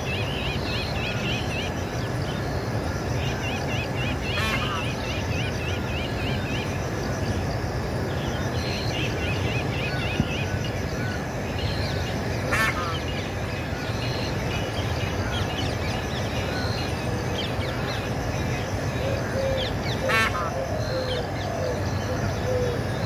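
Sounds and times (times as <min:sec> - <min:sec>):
birds chirping: 0:00.0 - 0:23.0
low background noise: 0:00.0 - 0:23.0.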